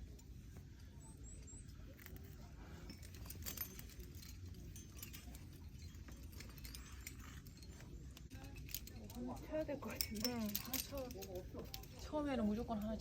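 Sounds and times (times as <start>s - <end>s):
climbing gear clinking: 0.0s - 13.0s.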